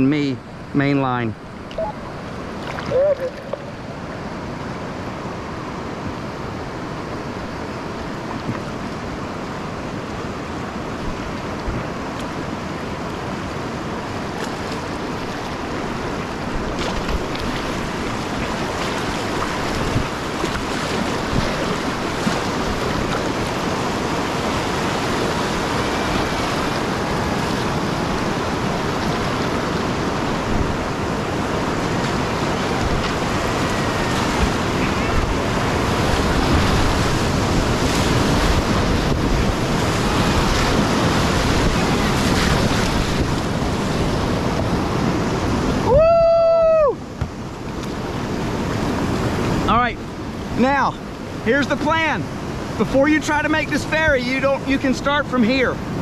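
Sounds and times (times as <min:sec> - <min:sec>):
whitewater rapid rushing: 0:00.0 - 0:56.0.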